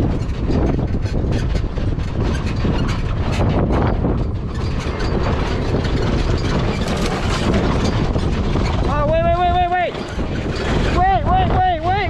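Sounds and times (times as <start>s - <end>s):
body rattles and knocks: 0.0s - 12.0s
chassis and tyre rumble: 0.0s - 12.0s
off-road vehicle engine running: 0.0s - 12.0s.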